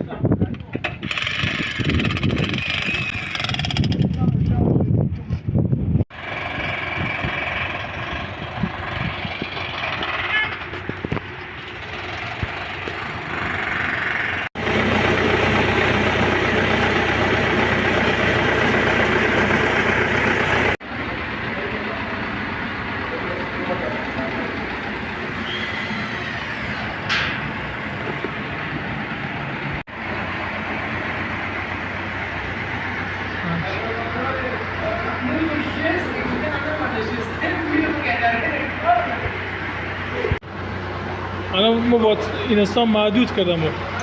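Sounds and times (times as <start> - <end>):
dump truck running: 6.1 - 44.0.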